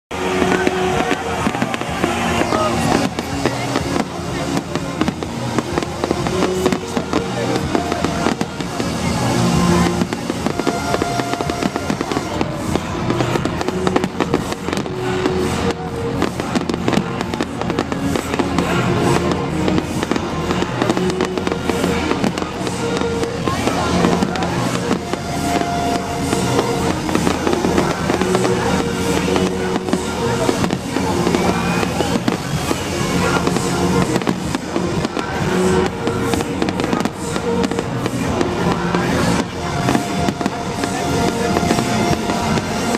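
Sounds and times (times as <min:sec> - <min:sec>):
fireworks bangs and crackles: 0:00.1 - 0:42.9
loud electronic music: 0:00.1 - 0:42.9.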